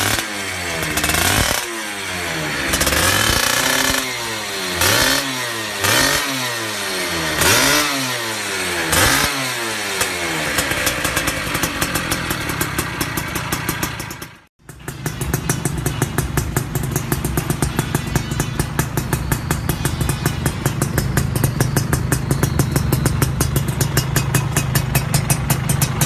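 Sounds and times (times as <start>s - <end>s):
motorcycle engine revving and idling: 0.0s - 26.0s
two-stroke engine idling: 0.0s - 26.0s.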